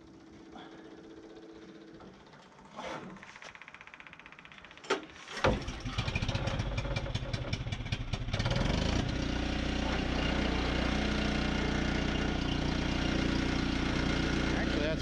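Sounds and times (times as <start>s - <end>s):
generator engine running: 0.0s - 4.8s, 5.5s - 15.0s.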